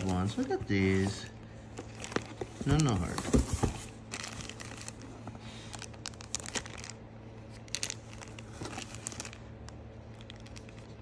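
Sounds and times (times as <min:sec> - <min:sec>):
low steady hum: 0:00.0 - 0:11.0
plastic bags crinkling: 0:00.0 - 0:11.0.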